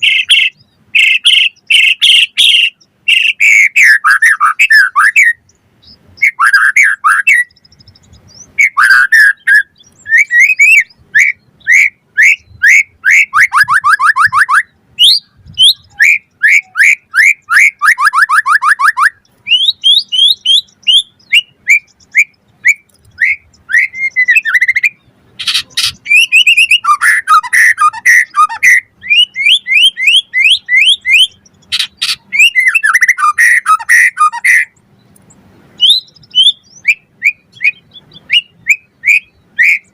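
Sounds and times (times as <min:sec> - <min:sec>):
songbird whistling and trilling: 0:00.0 - 0:35.1, 0:35.8 - 0:39.9.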